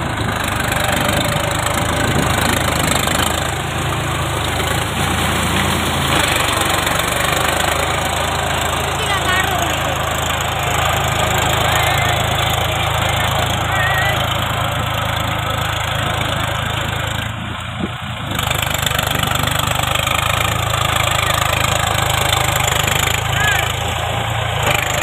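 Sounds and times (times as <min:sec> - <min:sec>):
tiller churning through mud: 0:00.0 - 0:25.0
tractor diesel engine running: 0:00.0 - 0:25.0.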